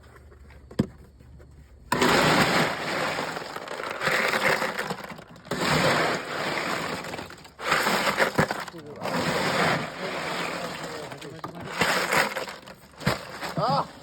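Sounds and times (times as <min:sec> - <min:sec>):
ice crunching and rattling: 0:00.0 - 0:14.0.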